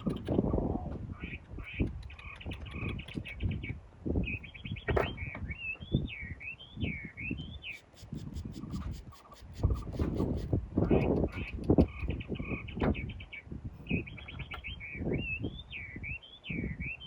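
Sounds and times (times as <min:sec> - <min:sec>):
bird chirping and warbling: 0:00.0 - 0:17.0.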